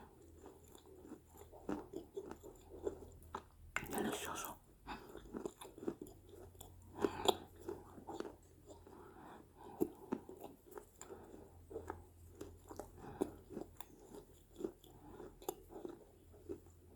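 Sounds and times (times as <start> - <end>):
crunchy chewing: 0.0 - 16.9.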